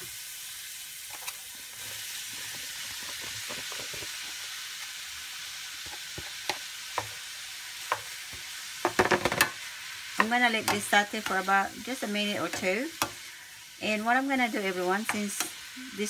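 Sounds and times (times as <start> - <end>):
onions sizzling in oil: 0.0 - 16.0
spatula stirring in a pan: 1.0 - 16.0.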